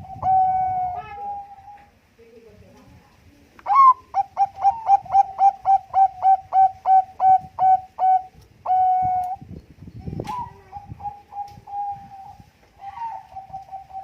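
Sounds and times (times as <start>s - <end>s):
dove cooing: 0.0s - 1.9s, 3.7s - 9.4s, 10.2s - 14.0s.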